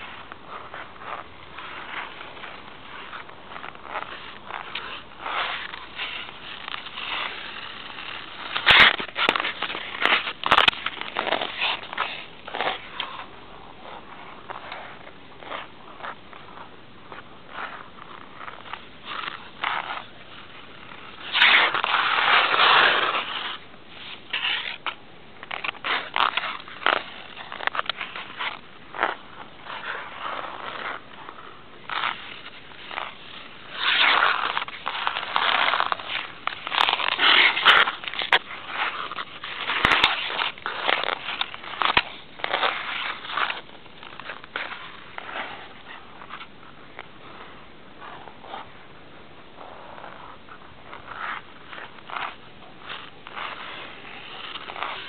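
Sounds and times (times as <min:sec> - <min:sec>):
short sharp skate clicks: 0:00.0 - 0:16.2, 0:21.1 - 0:47.2, 0:49.9 - 0:55.0
ice skates scraping ice: 0:00.0 - 0:55.0.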